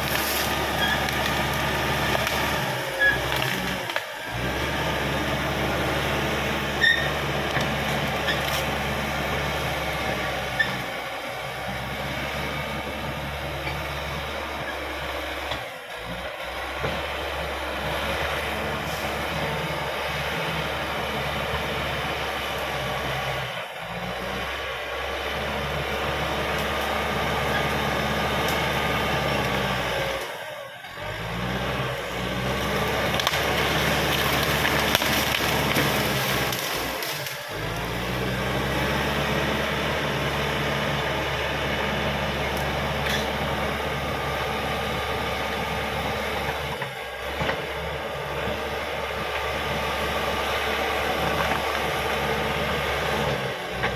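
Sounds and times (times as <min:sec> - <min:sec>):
bulldozer diesel engine under load: 0:00.0 - 0:53.9.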